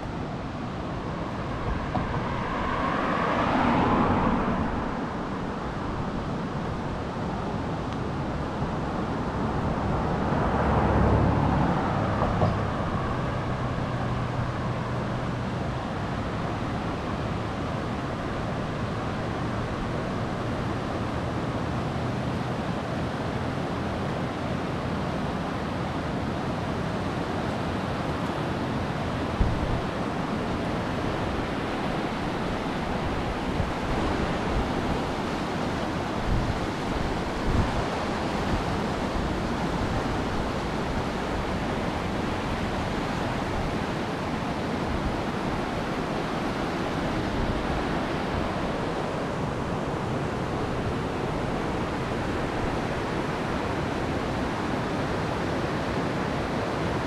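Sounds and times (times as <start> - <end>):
car passing: 0.0 - 57.0
river rapids rushing: 0.0 - 57.0.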